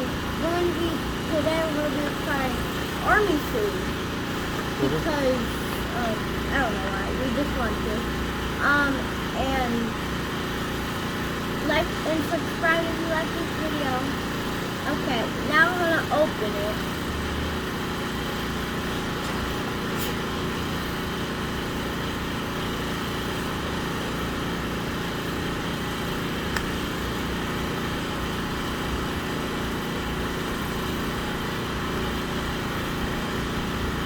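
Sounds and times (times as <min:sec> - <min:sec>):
small engine droning: 0:00.0 - 0:34.0.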